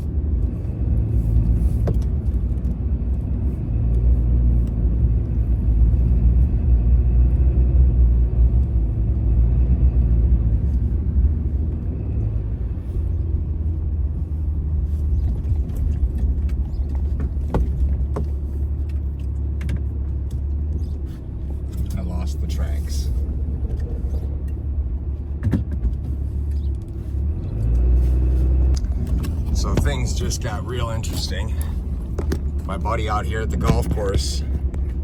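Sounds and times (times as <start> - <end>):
pickup truck engine and road rumble: 0.0 - 35.0.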